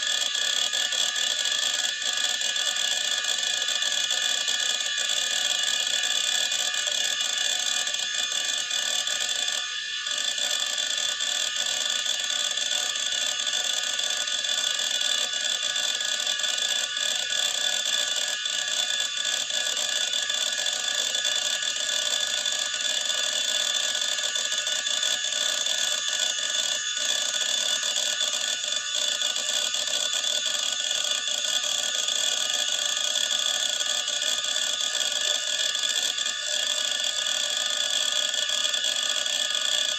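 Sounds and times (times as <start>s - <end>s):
hard drive whine: 0.0s - 39.9s.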